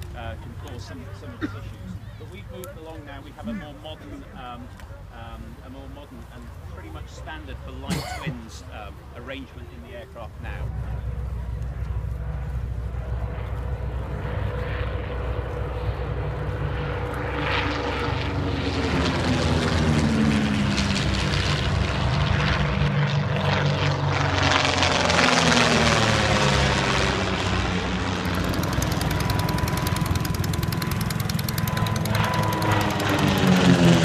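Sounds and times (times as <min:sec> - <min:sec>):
propeller aircraft flying past: 0:00.0 - 0:34.0.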